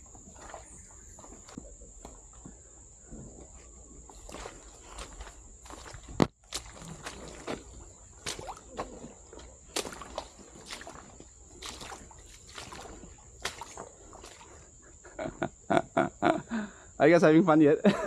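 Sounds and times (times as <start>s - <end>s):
footsteps squelching through mud: 0.0s - 15.1s.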